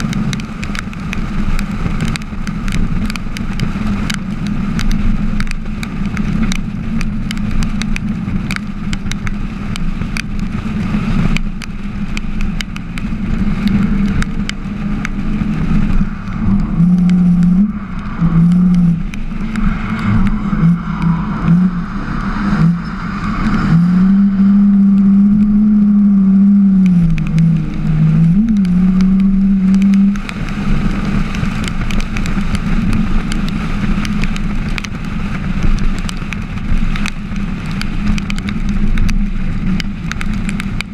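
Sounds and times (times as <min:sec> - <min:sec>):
car engine revving: 0:00.0 - 0:40.9
sharp exhaust crackles: 0:00.0 - 0:40.9.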